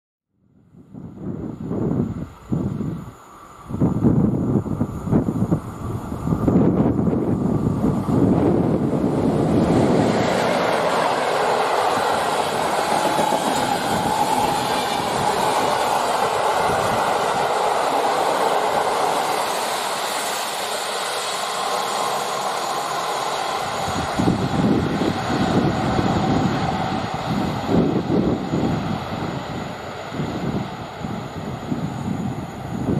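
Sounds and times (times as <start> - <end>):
wind buffeting microphone: 0.6 - 32.9
train wheels rushing on rail: 1.0 - 32.9.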